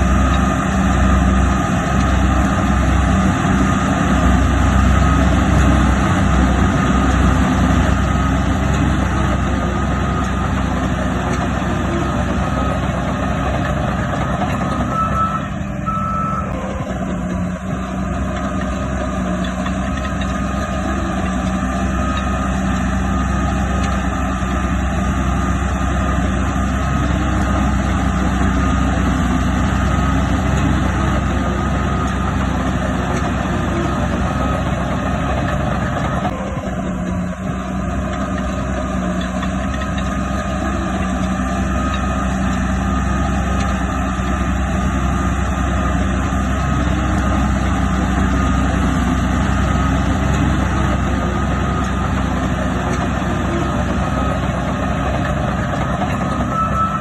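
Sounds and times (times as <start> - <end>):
reversing alarm beeping: 0.0 - 19.4, 20.0 - 37.4, 45.8 - 57.0
heavy diesel machine running: 0.0 - 57.0.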